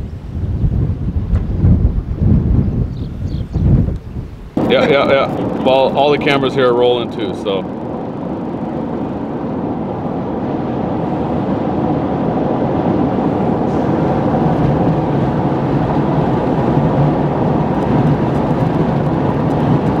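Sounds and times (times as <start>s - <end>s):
vehicle road and engine noise: 0.0s - 20.0s.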